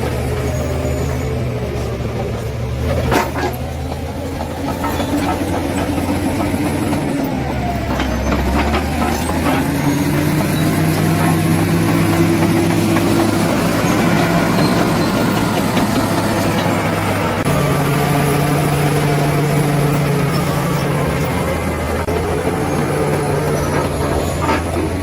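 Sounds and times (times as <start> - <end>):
bulldozer diesel engine: 0.0 - 25.0.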